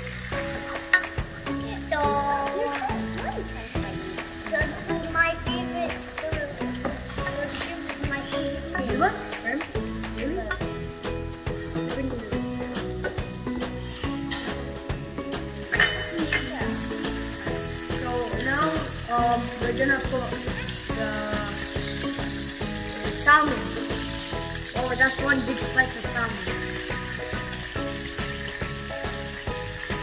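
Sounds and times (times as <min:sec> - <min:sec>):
background music with steady beat: 0:00.0 - 0:30.0
frying pan sizzling: 0:00.0 - 0:30.0.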